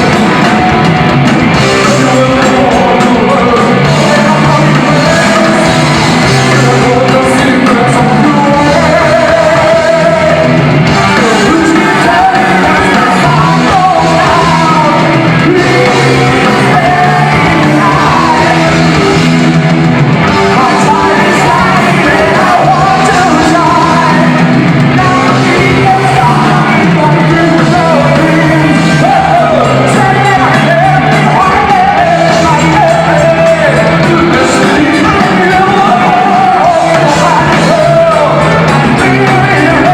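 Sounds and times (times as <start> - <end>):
heavy metal band playing live: 0.0 - 39.9
singer singing and shouting: 0.0 - 39.9.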